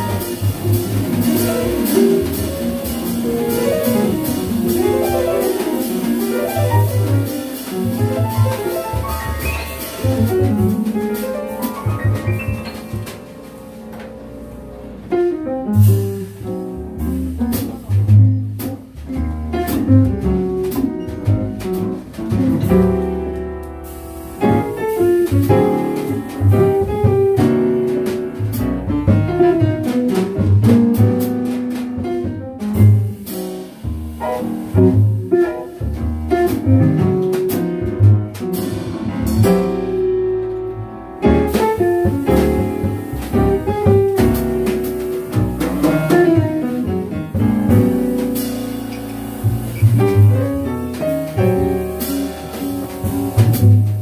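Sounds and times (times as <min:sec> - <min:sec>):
drum kit: 0:00.0 - 0:54.0
piano: 0:00.0 - 0:54.0
upright double bass: 0:00.0 - 0:54.0.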